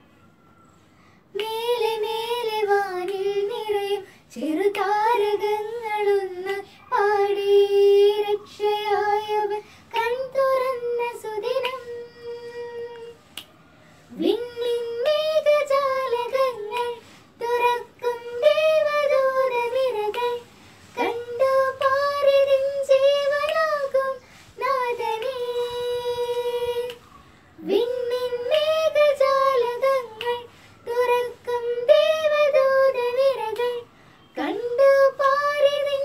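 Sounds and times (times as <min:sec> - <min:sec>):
child singing: 0:01.3 - 0:13.2, 0:14.1 - 0:27.0, 0:27.6 - 0:36.0.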